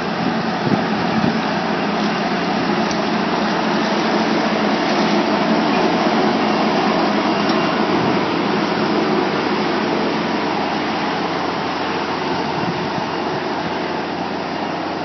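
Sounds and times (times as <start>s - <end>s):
tractor engine and hedger machinery: 0.0s - 15.0s.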